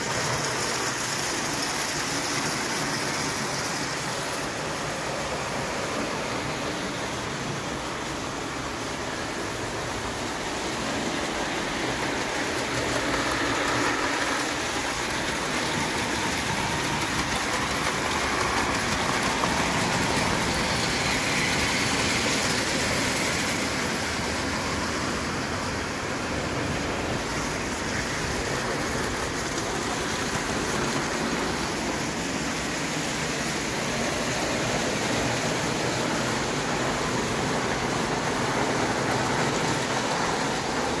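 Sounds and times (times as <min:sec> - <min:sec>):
model steam train running on metal track: 0:00.0 - 0:41.0.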